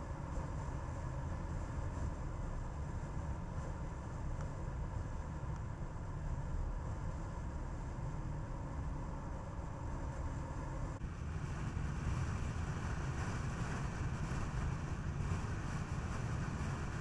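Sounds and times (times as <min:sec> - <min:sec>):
car tyre and wind noise: 0:00.0 - 0:17.0.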